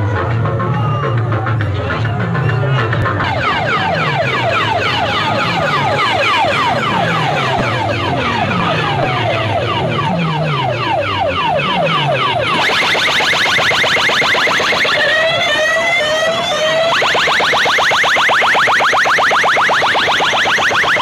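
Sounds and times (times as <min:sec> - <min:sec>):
electronic siren effect sweeps: 0:02.7 - 0:21.0.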